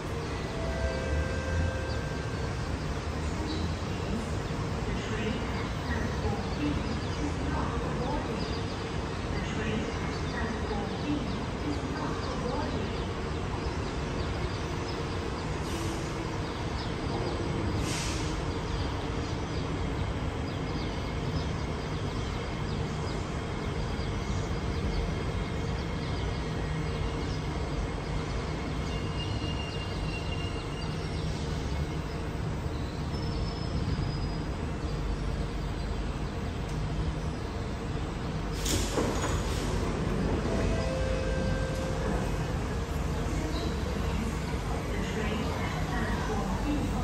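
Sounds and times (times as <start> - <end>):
high whines of train motors: 0.0 - 47.0
train rumble: 0.0 - 47.0.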